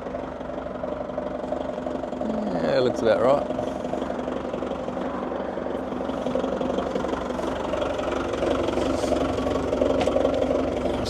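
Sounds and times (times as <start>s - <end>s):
forklift engine idling: 0.0s - 11.0s.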